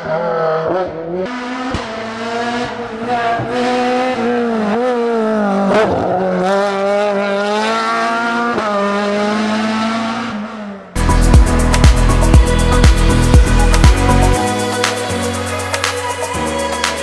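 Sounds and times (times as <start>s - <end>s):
rally car engine revving: 0.0s - 14.4s.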